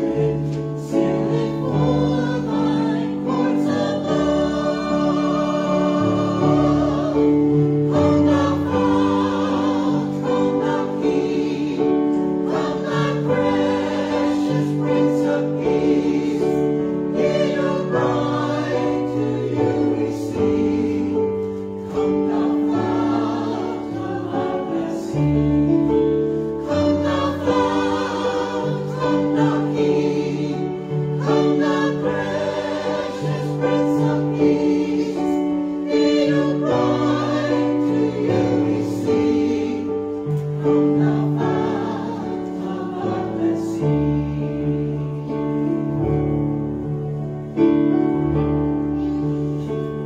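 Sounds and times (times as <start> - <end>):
mixed choir singing: 0.0 - 46.4.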